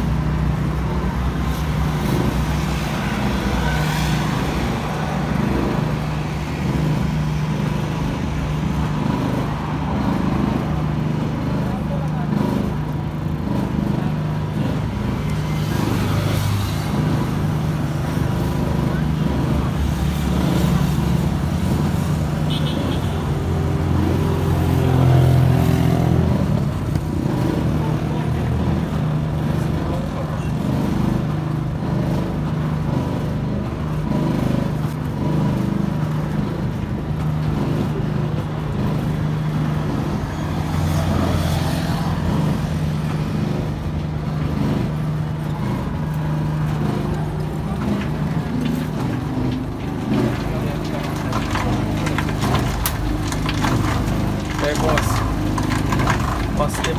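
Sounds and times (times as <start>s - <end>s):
ice cream machine motor humming: 0.0s - 56.9s.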